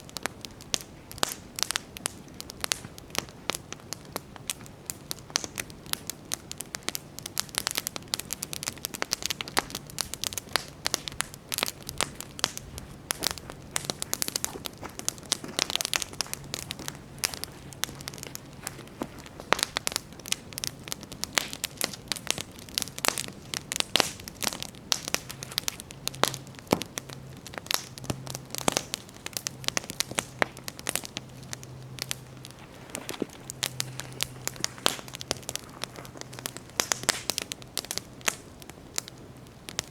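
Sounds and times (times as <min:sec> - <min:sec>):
campfire crackling: 0:00.0 - 0:39.9
logs popping and snapping: 0:00.0 - 0:39.9.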